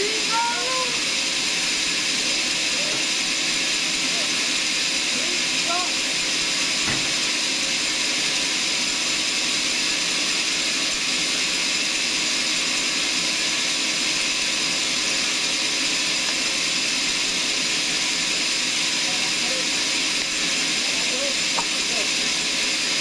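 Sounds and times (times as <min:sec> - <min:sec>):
sawmill saw cutting log: 0:00.0 - 0:23.0.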